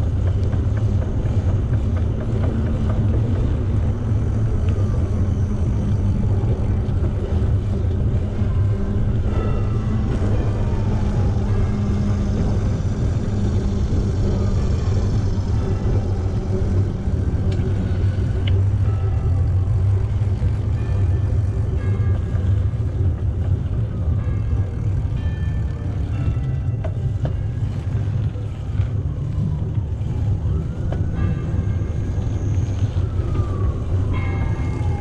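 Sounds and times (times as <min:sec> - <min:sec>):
bicycle road noise: 0:00.0 - 0:35.0
faint music: 0:00.0 - 0:35.0
wind rumble: 0:00.0 - 0:35.0.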